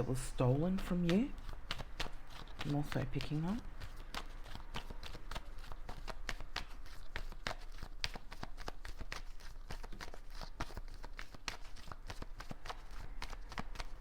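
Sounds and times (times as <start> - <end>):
cards being shuffled: 0.0 - 14.0.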